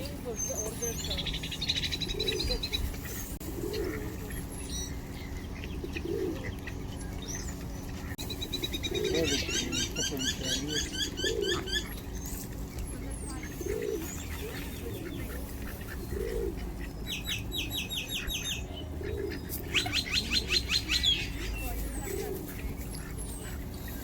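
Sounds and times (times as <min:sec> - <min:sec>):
pigeons cooing: 0:00.0 - 0:24.0
small birds chirping: 0:00.0 - 0:24.0.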